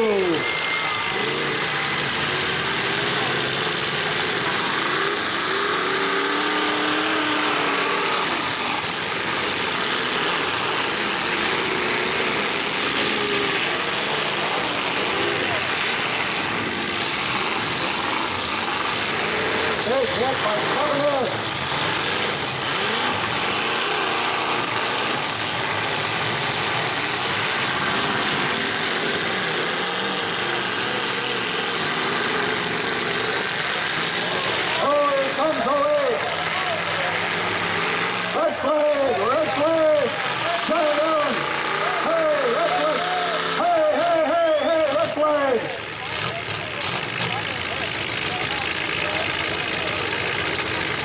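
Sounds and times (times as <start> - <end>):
car engines revving: 0.0 - 51.0.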